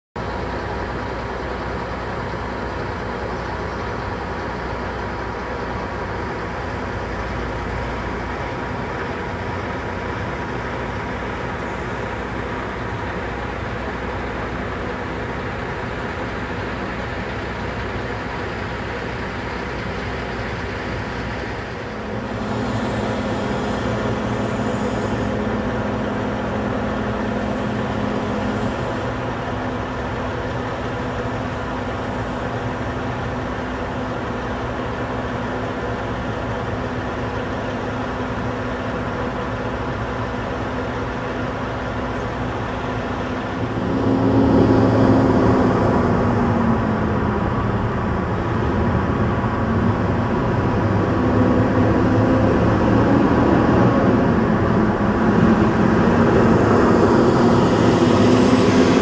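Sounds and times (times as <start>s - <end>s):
vehicle running noise from inside: 0.2s - 59.0s
steady hum: 5.0s - 59.0s.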